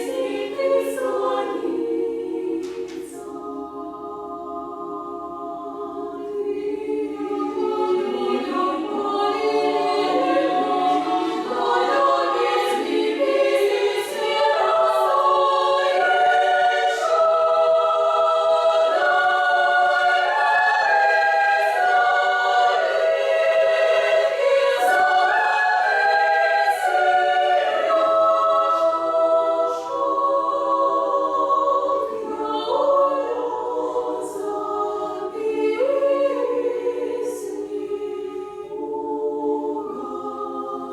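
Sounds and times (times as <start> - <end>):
women's choir singing a cappella: 0.0 - 40.9.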